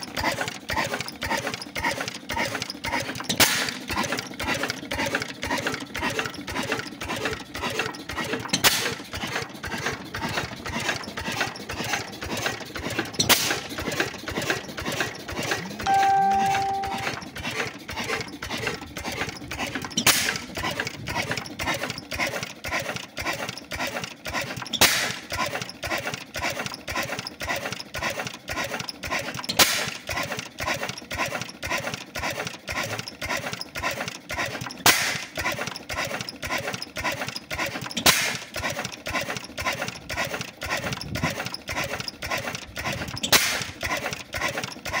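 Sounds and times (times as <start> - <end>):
engine mechanical clatter: 0.0 - 15.9, 16.6 - 45.0.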